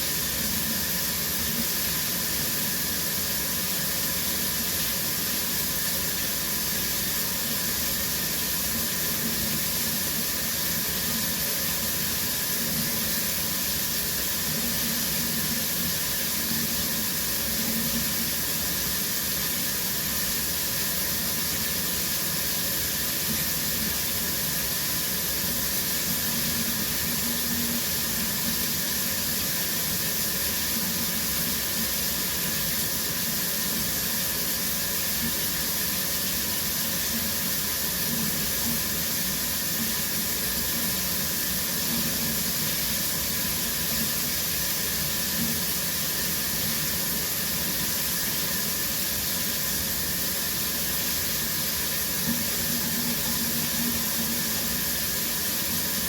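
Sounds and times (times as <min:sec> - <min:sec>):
shower water spraying: 0:00.0 - 0:56.0.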